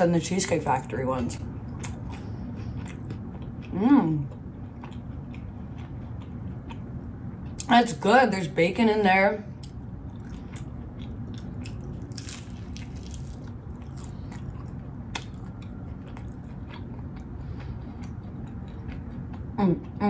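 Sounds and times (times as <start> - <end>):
crunchy chewing: 1.6 - 7.7, 9.6 - 20.0.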